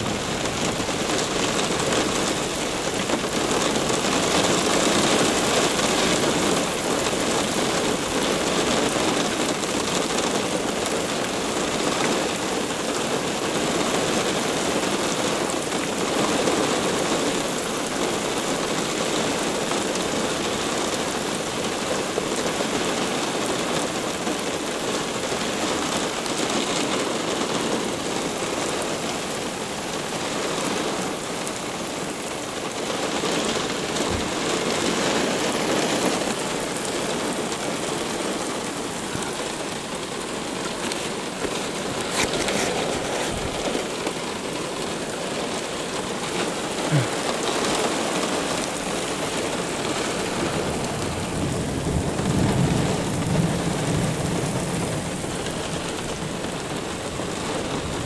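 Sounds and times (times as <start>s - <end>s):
heavy rain pouring on pavement: 0.0s - 58.0s.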